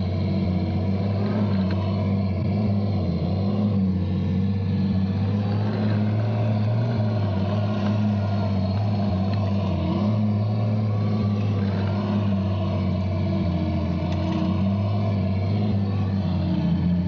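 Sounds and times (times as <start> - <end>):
model tank motor drone: 0.0 - 17.0.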